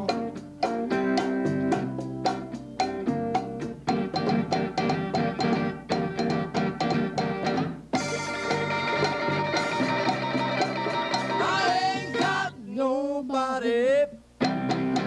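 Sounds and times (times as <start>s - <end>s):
live band playing: 0.0s - 12.6s, 14.4s - 15.0s.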